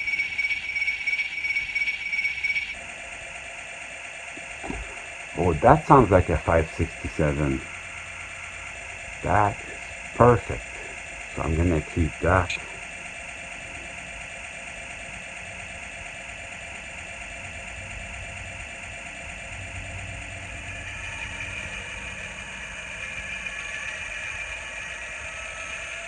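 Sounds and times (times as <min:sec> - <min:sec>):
diesel engine running: 0:02.8 - 0:25.7.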